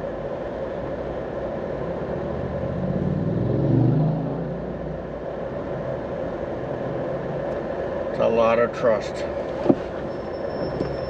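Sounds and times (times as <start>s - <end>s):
road noise inside car: 0.0s - 11.0s.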